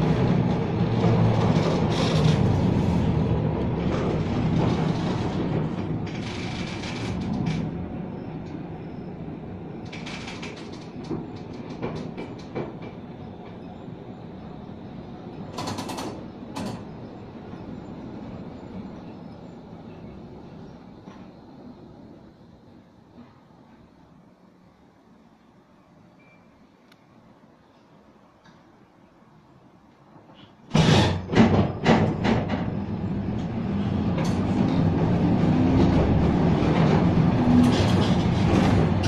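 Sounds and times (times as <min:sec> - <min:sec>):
tram rumbling on track: 0:00.0 - 0:26.0, 0:27.2 - 0:39.0.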